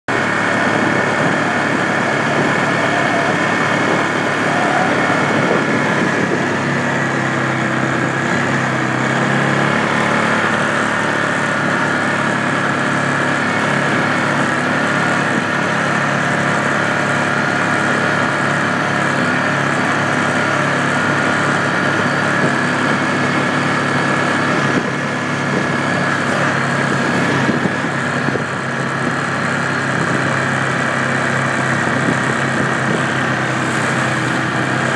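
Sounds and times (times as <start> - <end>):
atv engines running: 0.1 - 34.9.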